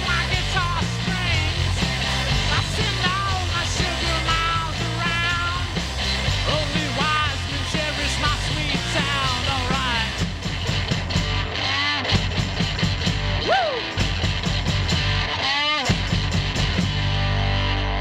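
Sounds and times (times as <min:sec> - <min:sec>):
tambourine: 0:00.0 - 0:11.5, 0:12.2 - 0:17.0
bass guitar: 0:00.0 - 0:18.0
distorted electric guitar: 0:00.0 - 0:18.0
drums: 0:00.0 - 0:18.0.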